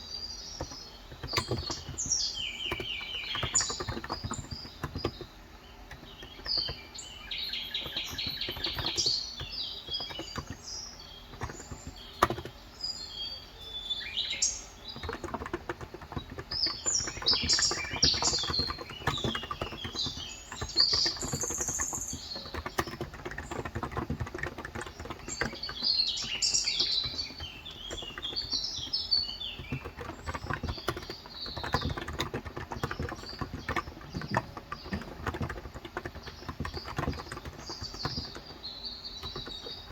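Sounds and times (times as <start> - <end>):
small birds chirping: 0.0 - 39.9
keyboard typing: 0.4 - 12.8, 13.5 - 39.9.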